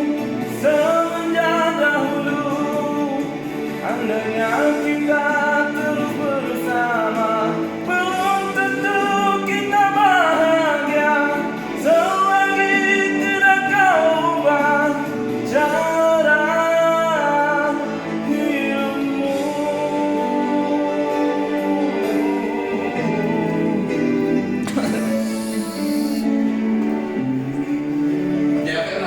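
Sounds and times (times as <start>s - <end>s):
guitar accompaniment: 0.0s - 29.0s
person singing long held notes: 0.6s - 26.7s.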